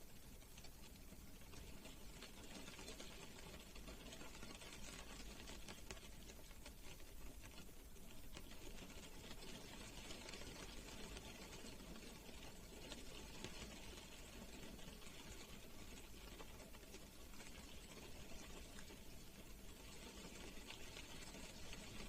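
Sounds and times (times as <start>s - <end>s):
rain pattering on car roof: 0.2s - 22.0s.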